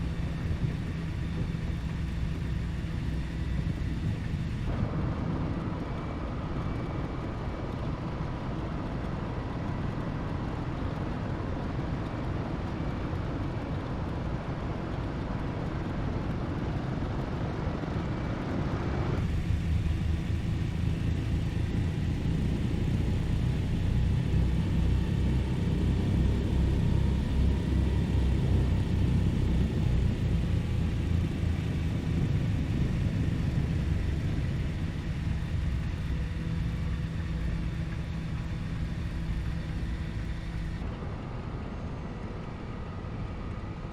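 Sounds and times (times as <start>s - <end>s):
propeller plane engines droning: 0.0s - 43.9s.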